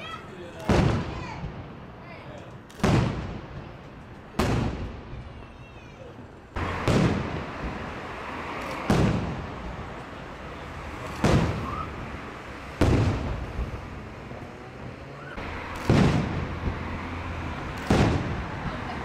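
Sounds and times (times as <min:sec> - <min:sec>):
firework shells booming: 0:00.6 - 0:02.0, 0:02.6 - 0:05.4, 0:06.6 - 0:09.9, 0:11.0 - 0:19.0.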